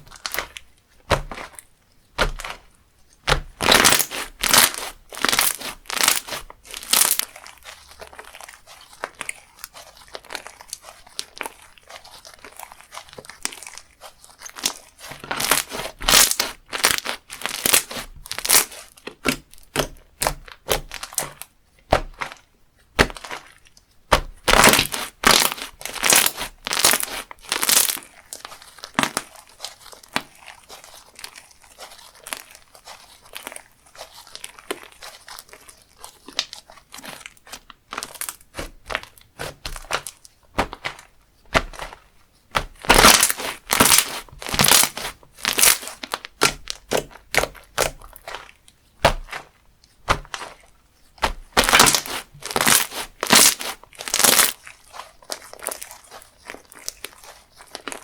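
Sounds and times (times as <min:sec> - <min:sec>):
slime crackling and popping: 0:00.0 - 0:58.0.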